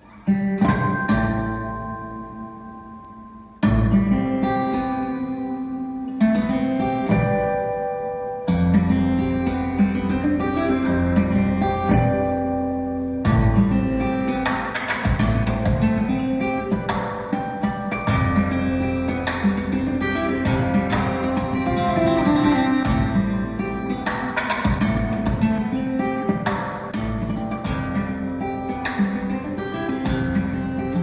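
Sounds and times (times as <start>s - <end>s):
acoustic guitar music from speakers: 0.0s - 31.0s.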